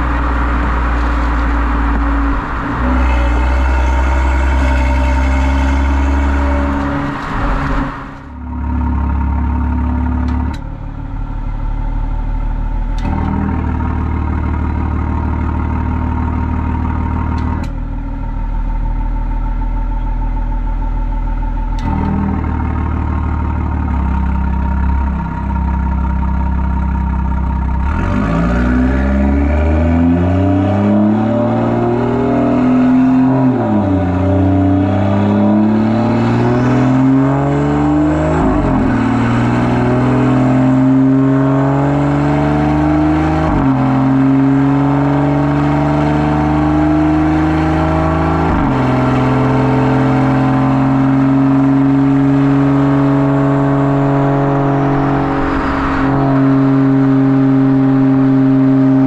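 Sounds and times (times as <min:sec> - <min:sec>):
car exhaust droning: 0:00.0 - 0:59.0.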